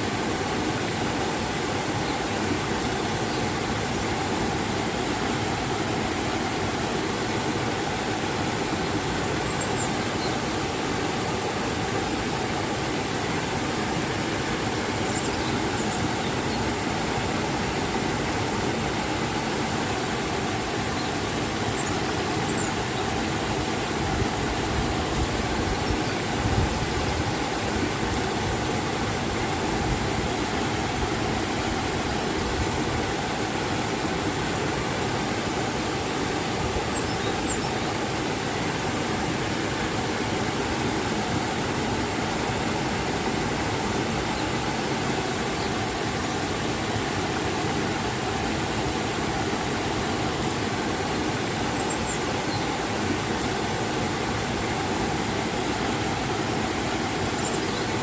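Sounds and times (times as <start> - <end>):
river and waterfall rushing: 0.0 - 58.0.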